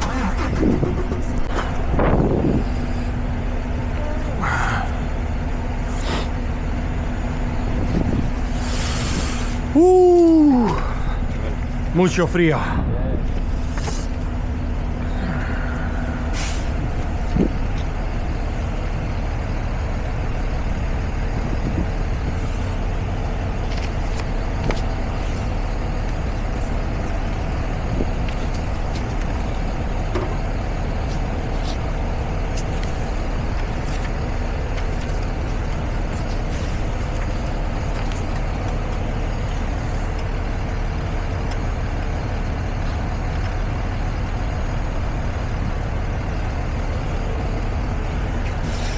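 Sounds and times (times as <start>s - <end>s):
truck engine and road rumble: 0.0s - 48.9s.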